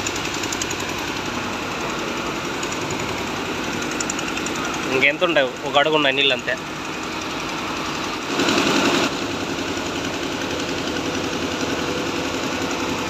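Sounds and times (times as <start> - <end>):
diesel engine knocking: 0.0 - 13.0.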